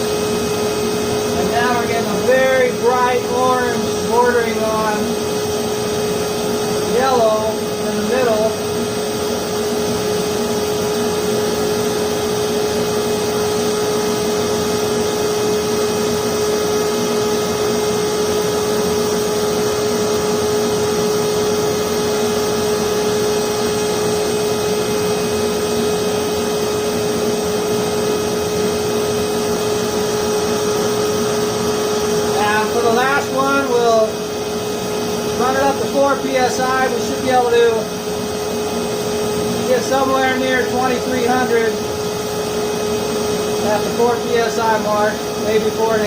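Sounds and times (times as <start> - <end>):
electric blower whine: 0.0 - 46.0.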